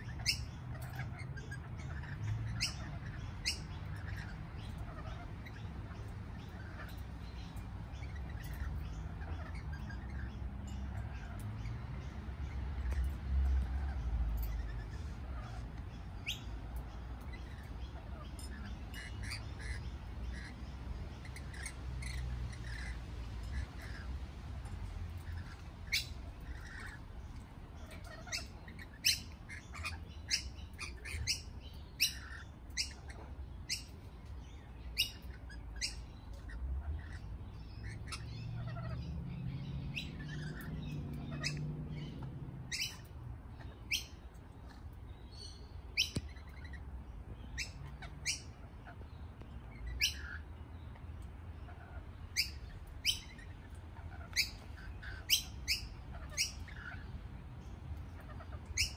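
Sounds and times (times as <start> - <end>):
lorikeets chirping and screeching: 0.0 - 58.9.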